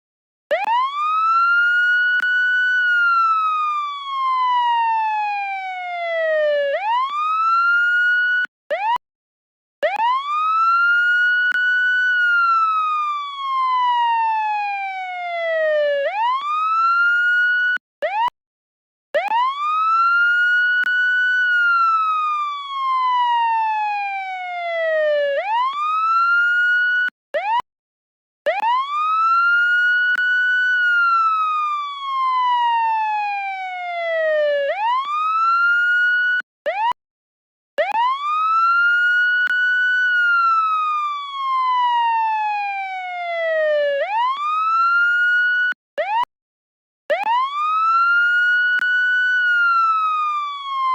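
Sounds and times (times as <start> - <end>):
police siren wailing: 0.5 - 9.0, 9.8 - 18.3, 19.2 - 27.6, 28.5 - 37.0, 37.8 - 46.3, 47.1 - 50.9.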